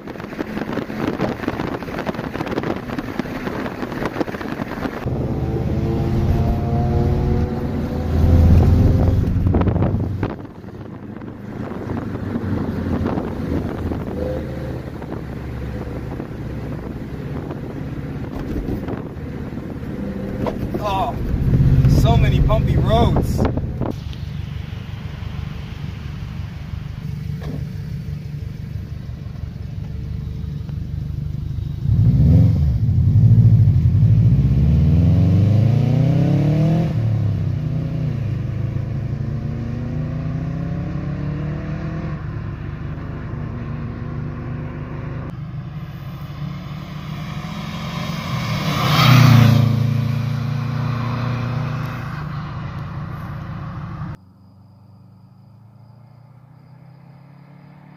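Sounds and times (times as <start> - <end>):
car engine accelerating: 0.0 - 57.9
second car passing loudly: 5.0 - 27.6, 31.8 - 57.9.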